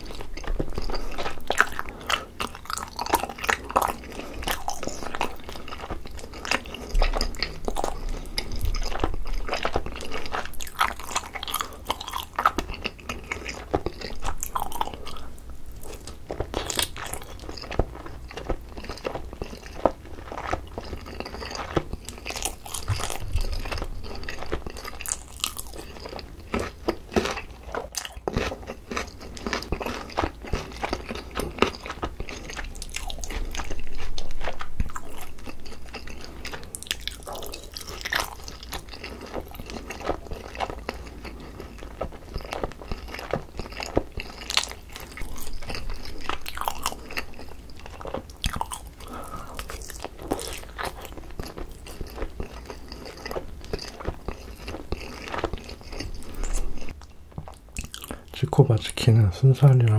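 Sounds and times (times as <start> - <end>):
chewing sticky chicken: 0.0 - 59.9.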